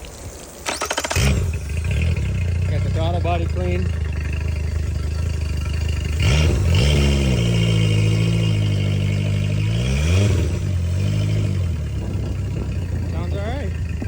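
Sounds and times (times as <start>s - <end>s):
outboard engine idling and revving: 0.6s - 14.0s.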